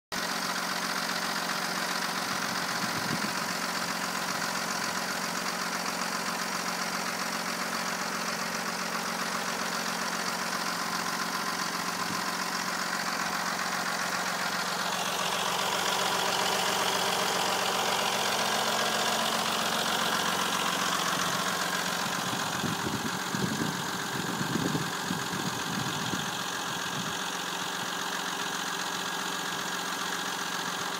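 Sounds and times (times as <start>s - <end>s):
diesel engine idling with clatter: 0.1s - 30.9s.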